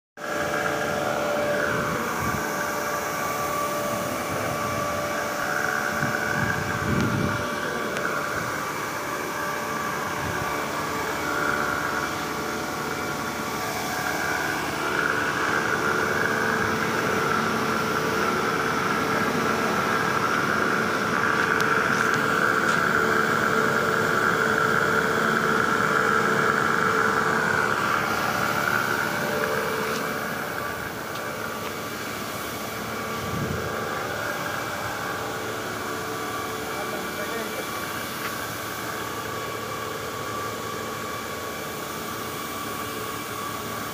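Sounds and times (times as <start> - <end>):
electric vacuum pump running: 0.2 - 43.9.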